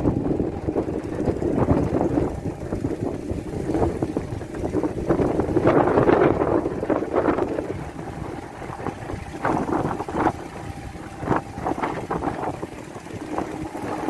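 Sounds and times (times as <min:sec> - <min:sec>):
low steady rumble: 0:00.0 - 0:14.0
wind buffeting microphone: 0:00.0 - 0:14.0.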